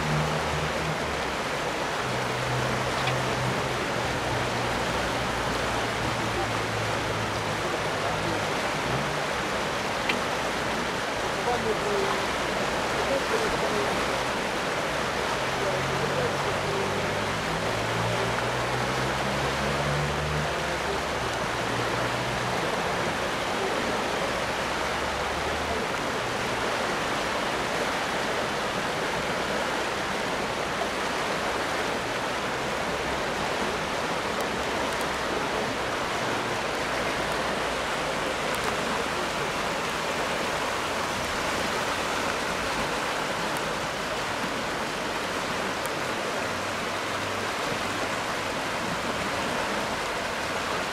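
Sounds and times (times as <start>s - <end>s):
floodwater rushing: 0.0s - 50.9s.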